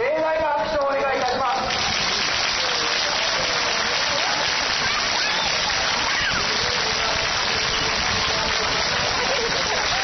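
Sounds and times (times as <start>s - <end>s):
crowd applauding: 0.8s - 10.0s.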